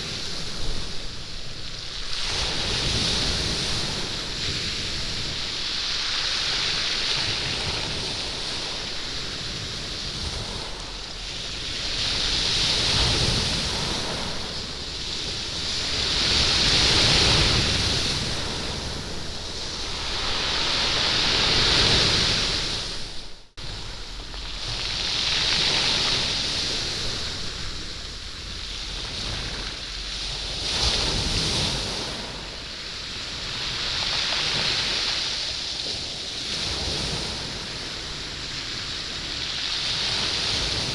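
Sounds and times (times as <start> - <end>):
waves washing up beach: 0.0 - 40.9.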